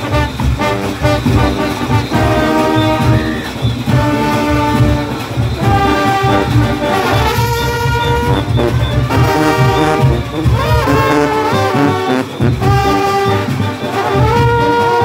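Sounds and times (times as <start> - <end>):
brass band melody: 0.0 - 15.0
steady drum beat: 0.0 - 15.0.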